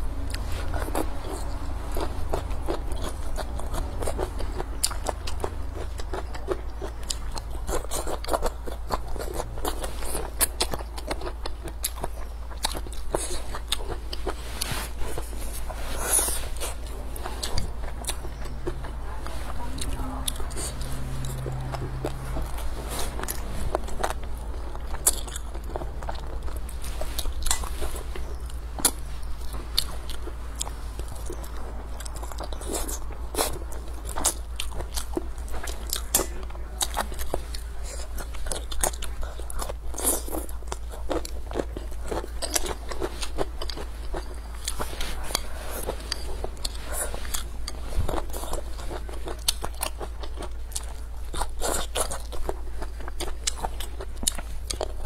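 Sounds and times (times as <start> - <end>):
person chewing and crunching: 0.0 - 55.0
steady low hum: 0.0 - 55.0.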